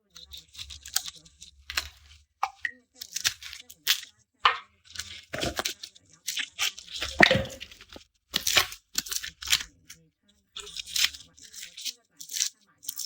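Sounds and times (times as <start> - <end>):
garlic skins crackling as peeled: 0.2 - 9.8, 10.6 - 13.0.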